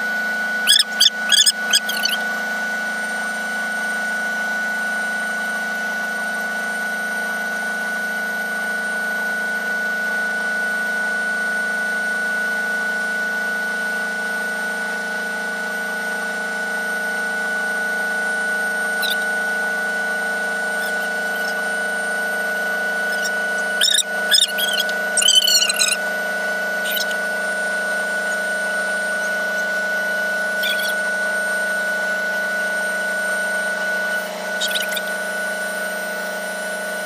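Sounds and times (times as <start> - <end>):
machinery hum with high whine: 0.0 - 37.0.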